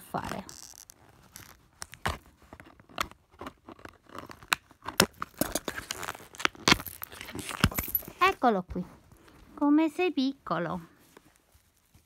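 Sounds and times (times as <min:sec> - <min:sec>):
handling plastic doll and box: 0:00.0 - 0:09.8.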